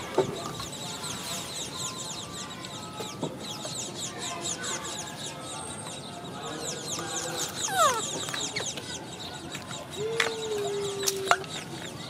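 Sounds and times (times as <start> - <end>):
birds chirping: 0.0 - 12.0
fainter lower bird calls: 0.4 - 12.0.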